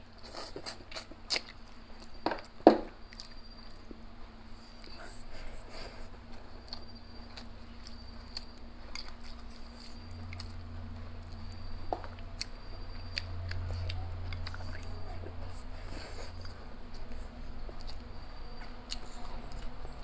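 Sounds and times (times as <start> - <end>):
low steady hum: 0.0 - 20.0
person chewing and smacking: 0.2 - 20.0.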